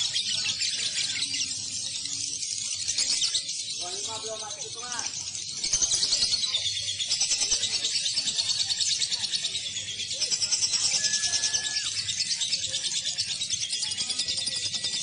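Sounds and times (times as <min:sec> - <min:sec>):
lovebirds chattering in trills: 0:00.0 - 0:15.0.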